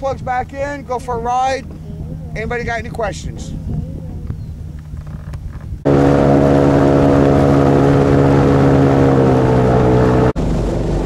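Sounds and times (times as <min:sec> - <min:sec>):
airboat engine and propeller drone: 0:00.0 - 0:11.0
low engine rumble: 0:00.0 - 0:11.0.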